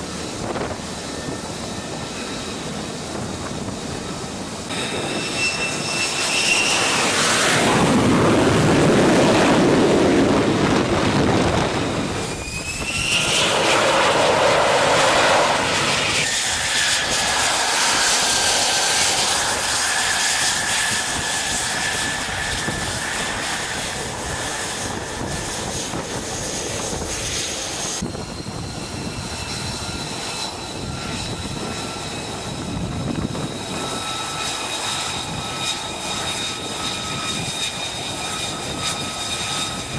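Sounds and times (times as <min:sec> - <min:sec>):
high turbine whine: 0:00.0 - 0:39.9
jet engine roaring: 0:00.0 - 0:39.9.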